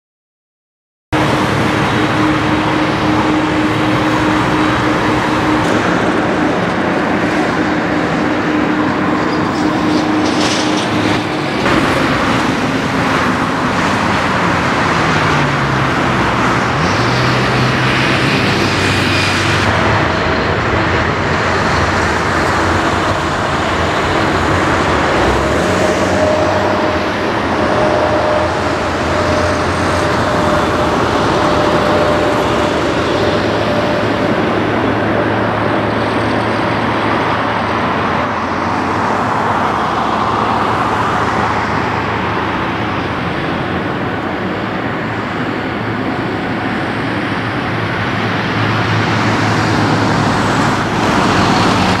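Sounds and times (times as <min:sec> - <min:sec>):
jet engines roaring: 0:01.2 - 0:52.0.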